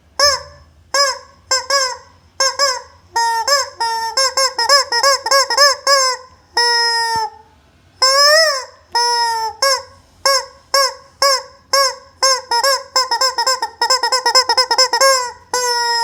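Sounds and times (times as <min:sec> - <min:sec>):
rubber chicken toy squealing: 0:00.1 - 0:16.0.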